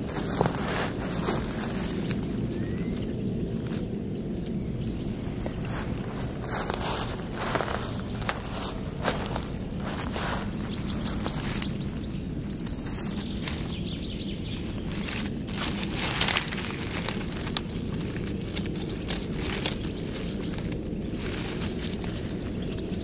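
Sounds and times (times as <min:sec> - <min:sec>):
hand rustling dry leaves: 0:00.0 - 0:23.0
low background noise: 0:00.0 - 0:23.0
small bird chirping: 0:01.2 - 0:23.0.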